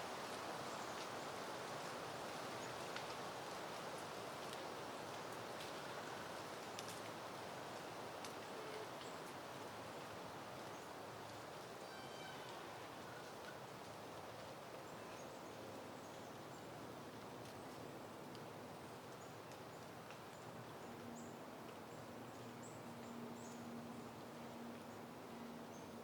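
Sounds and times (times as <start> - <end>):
soft wind: 0.0 - 26.0.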